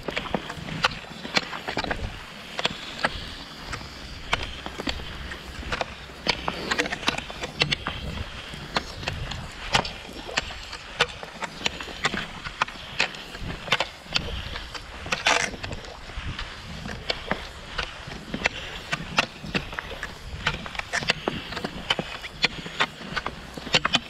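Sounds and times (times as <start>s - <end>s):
ski pole tips clicking: 0.0s - 24.0s
skis scraping over snow: 0.0s - 24.0s.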